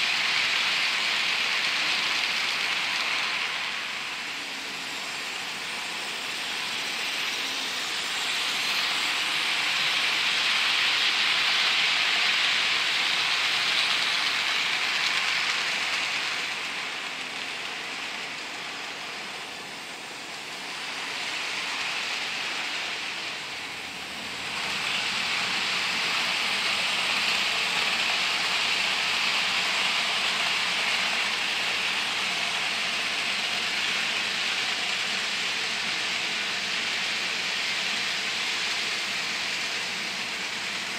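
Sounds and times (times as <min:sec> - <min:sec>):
model train wheels rattling: 0:00.0 - 0:40.9.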